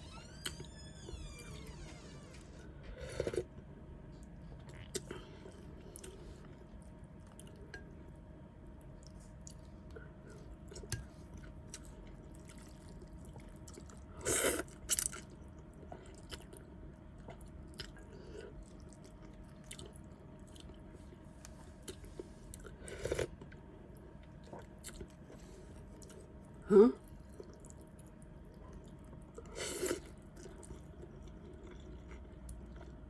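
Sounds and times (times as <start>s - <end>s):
chewing noodle soup: 4.2s - 7.9s, 8.6s - 26.5s, 27.1s - 33.0s.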